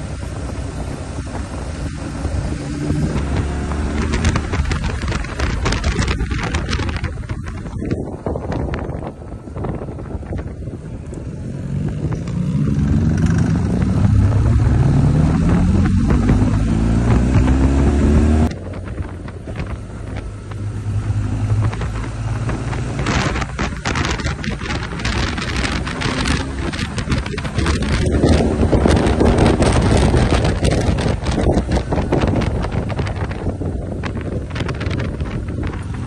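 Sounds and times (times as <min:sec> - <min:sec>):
motorcycle engine accelerating: 0:00.0 - 0:36.0
wind buffeting microphone: 0:00.0 - 0:36.0.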